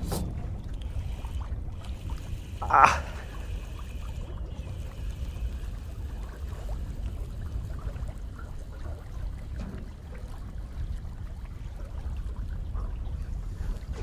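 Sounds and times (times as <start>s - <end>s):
waves lapping against boat hull: 0.0s - 14.0s
wind rumbling on microphone: 0.0s - 14.0s.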